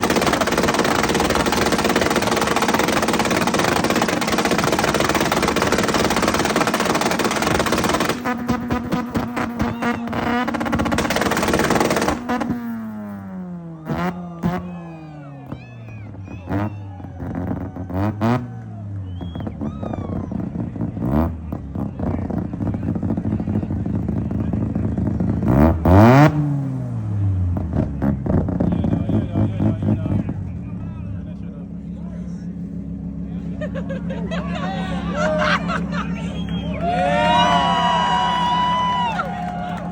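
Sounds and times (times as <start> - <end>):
car engine running with rattle: 0.0 - 39.9.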